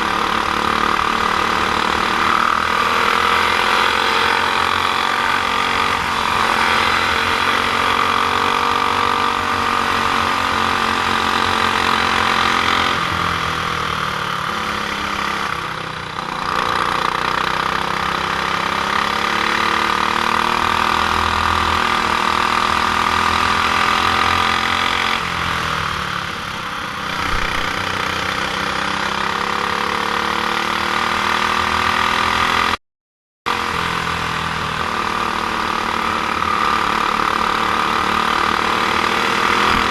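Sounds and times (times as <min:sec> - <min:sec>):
kart engine revving high: 0:00.0 - 0:32.8, 0:33.5 - 0:39.9.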